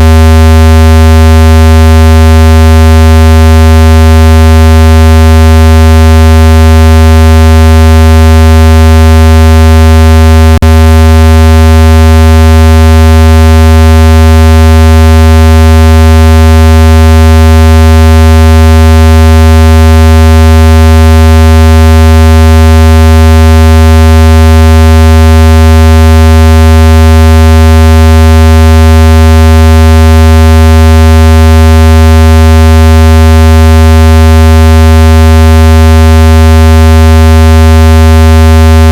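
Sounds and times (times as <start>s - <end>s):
synthesized low buzzing tone: 0.0s - 38.9s.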